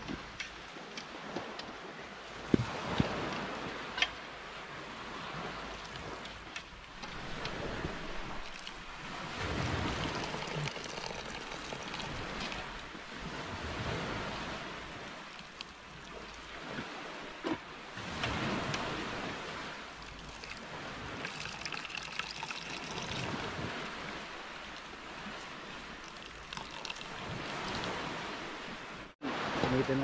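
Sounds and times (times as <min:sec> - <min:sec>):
surf washing on shore: 0:00.0 - 0:30.0.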